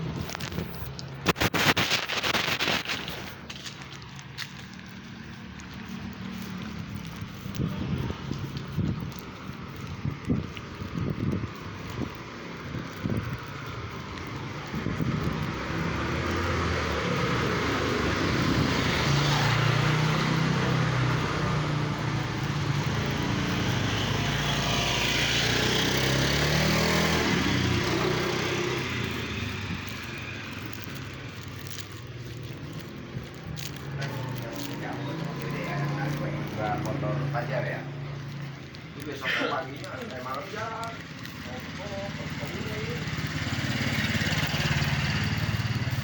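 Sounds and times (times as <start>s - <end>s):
motor vehicle engine: 0.0s - 46.0s.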